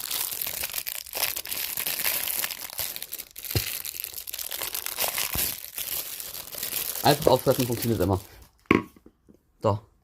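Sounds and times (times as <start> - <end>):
plastic film crinkling: 0.0 - 8.7.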